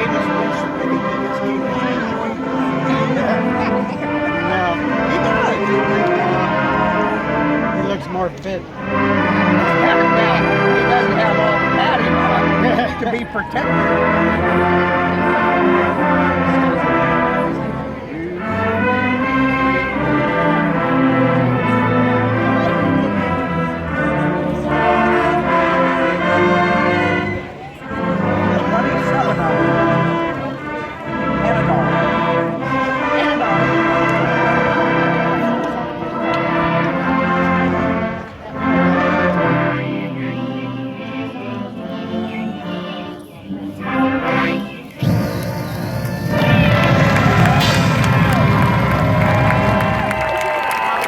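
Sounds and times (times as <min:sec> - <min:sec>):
marching band brass chords: 0:00.0 - 0:51.0.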